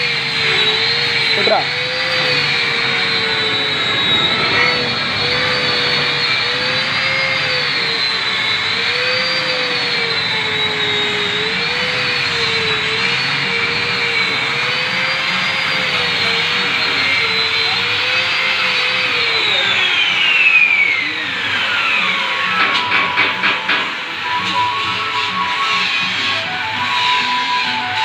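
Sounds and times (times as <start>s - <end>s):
polishing machine whining on metal: 0.0s - 28.0s.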